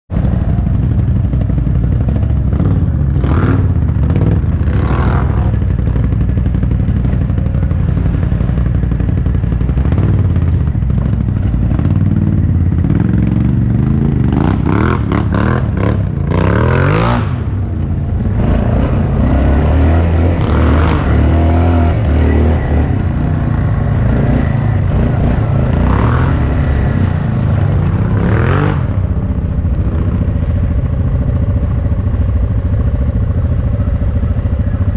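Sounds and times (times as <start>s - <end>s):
atv engine running: 0.1s - 34.9s.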